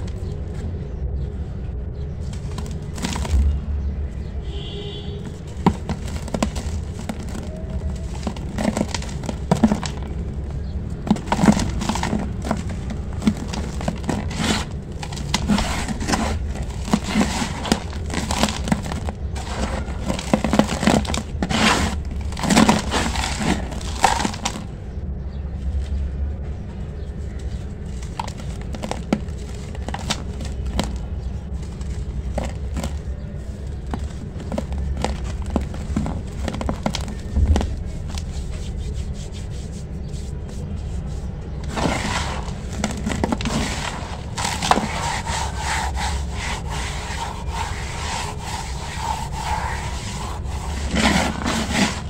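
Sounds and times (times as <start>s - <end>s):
crumbling cement crunching: 2.3s - 3.6s, 5.3s - 24.8s, 27.6s - 38.6s, 41.4s - 52.0s
powder rubbing: 5.3s - 24.8s, 27.1s - 52.0s.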